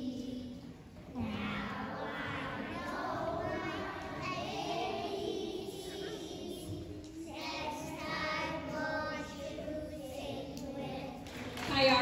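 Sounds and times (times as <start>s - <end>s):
children singing together: 0.0s - 11.5s.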